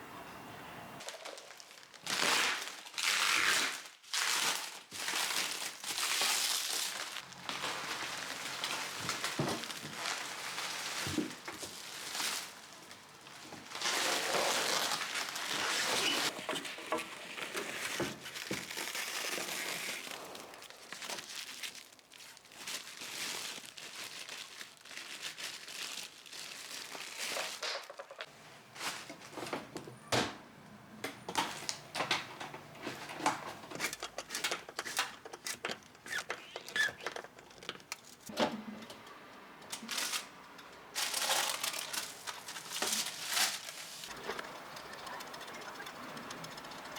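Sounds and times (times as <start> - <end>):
packaging crumpling and rustling: 1.0 - 29.8, 31.3 - 38.3, 39.7 - 44.5.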